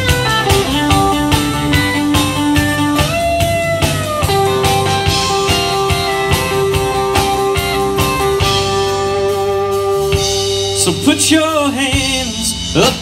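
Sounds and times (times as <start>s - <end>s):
country band playing: 0.0s - 13.0s.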